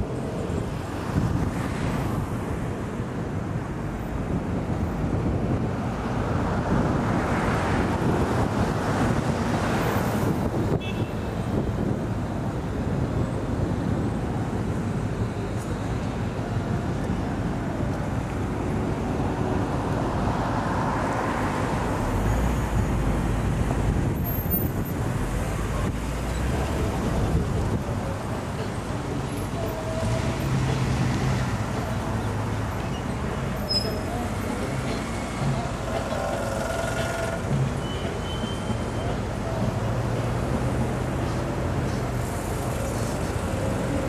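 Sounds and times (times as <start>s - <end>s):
car road noise: 0.0s - 44.0s.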